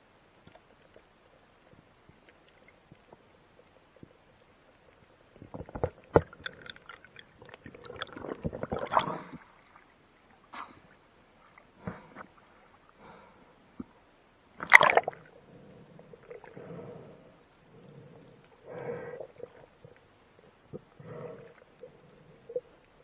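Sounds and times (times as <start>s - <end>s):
water sloshing and gurgling: 0.5s - 14.0s, 14.6s - 23.0s.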